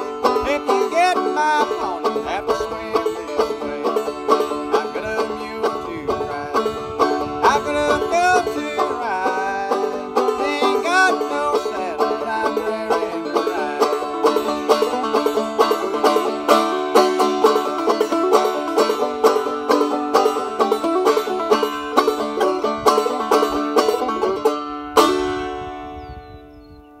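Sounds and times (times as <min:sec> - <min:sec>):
banjo picking: 0:00.0 - 0:26.2.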